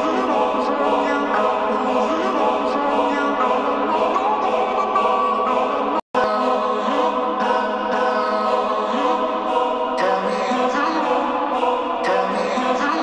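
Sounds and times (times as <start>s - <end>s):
choir-like singing music: 0.0s - 13.0s.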